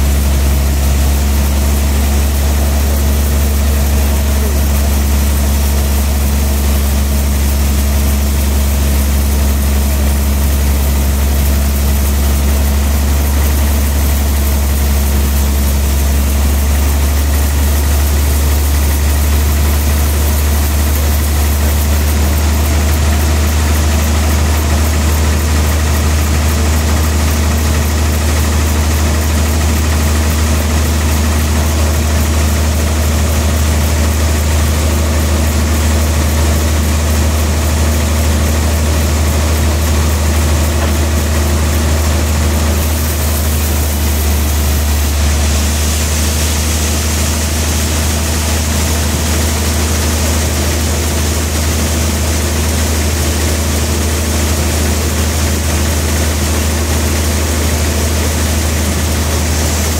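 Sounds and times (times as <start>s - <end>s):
band sawmill humming idle: 0.0s - 59.9s.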